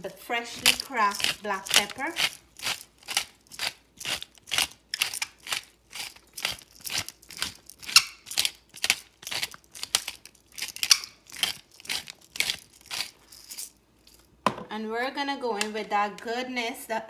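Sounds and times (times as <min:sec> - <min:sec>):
pepper grinder rasping: 0:00.3 - 0:14.3.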